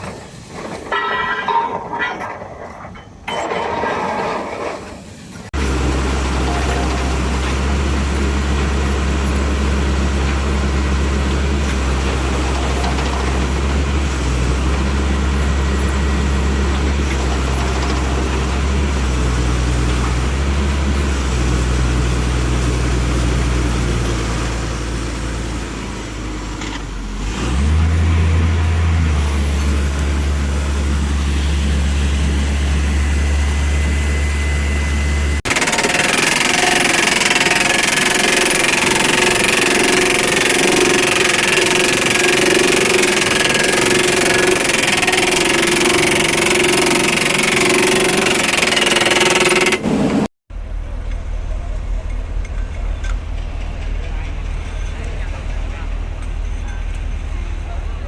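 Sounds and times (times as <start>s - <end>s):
drilling rig engine drone: 5.4s - 58.0s.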